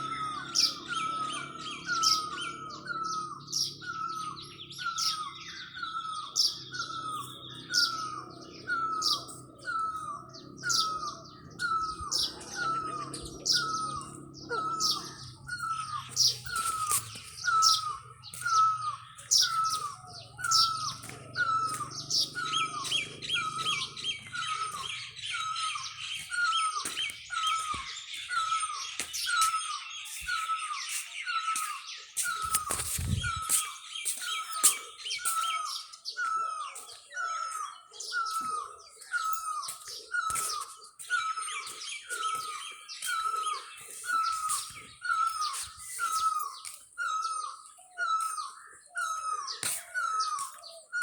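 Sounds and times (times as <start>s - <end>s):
birds chirping: 0.0s - 51.0s
fast steady bird trill: 0.0s - 51.0s.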